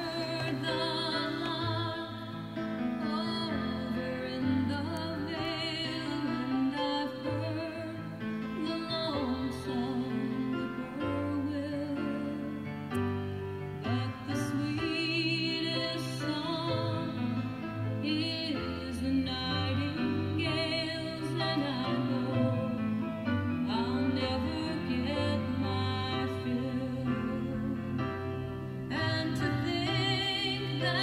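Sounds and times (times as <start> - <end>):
woman singing with vibrato: 0.0 - 12.7, 13.9 - 17.4, 18.0 - 22.9, 23.5 - 28.2, 28.9 - 31.0
soft instrumental backing: 0.0 - 31.0.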